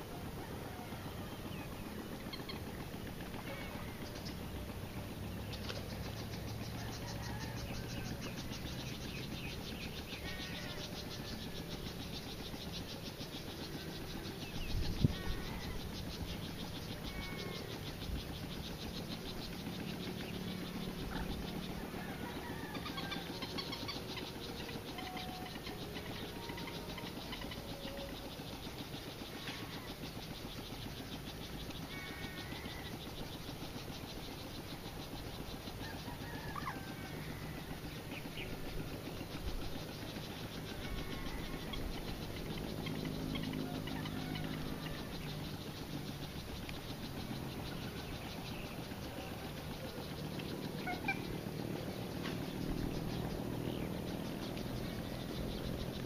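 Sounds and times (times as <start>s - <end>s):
birds chirping: 0.0s - 56.0s
fast pulsing trill: 0.0s - 56.0s.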